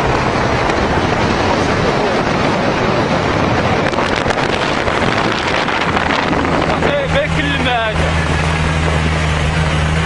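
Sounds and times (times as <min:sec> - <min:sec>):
motorcycle engines running: 0:00.0 - 0:10.0
wind rushing over microphone: 0:00.0 - 0:10.0.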